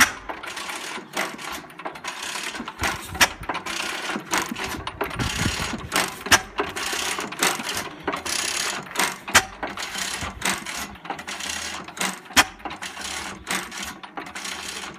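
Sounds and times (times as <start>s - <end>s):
sharp engine clicks: 0.0s - 14.9s
stationary engine clattering: 0.0s - 14.9s.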